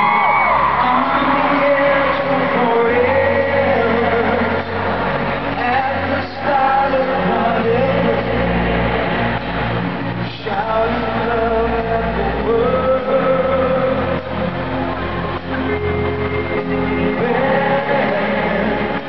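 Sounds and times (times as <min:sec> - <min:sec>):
full band playing: 0:00.0 - 0:19.0
male vocal group singing a ballad: 0:00.1 - 0:14.6, 0:15.7 - 0:19.0.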